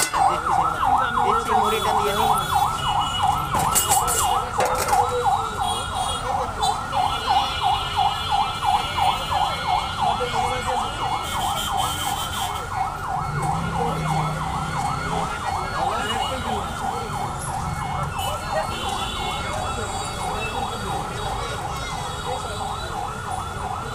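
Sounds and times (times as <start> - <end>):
siren in fast yelp: 0.0 - 23.9.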